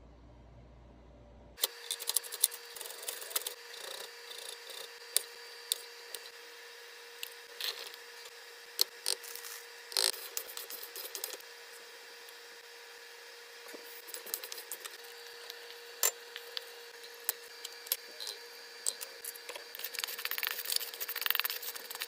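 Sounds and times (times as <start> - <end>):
faint steady hum: 0.0 - 22.0
utensil scraping and cutting: 1.6 - 6.4, 7.1 - 12.4, 13.7 - 22.0.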